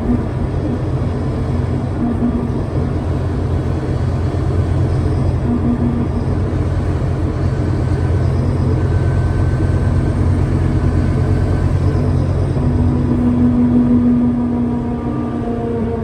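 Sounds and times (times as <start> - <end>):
bus engine drone: 0.0 - 16.0
humming tone: 0.0 - 16.0.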